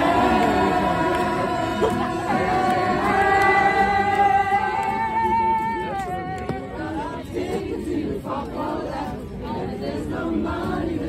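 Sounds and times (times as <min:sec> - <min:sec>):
group singing unaccompanied: 0:00.0 - 0:11.0.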